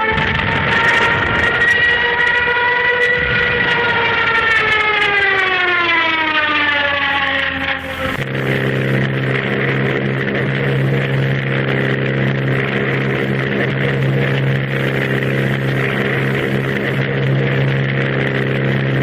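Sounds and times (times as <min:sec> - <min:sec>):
dive siren wailing: 0:00.0 - 0:19.0
steady low drone: 0:00.0 - 0:19.0.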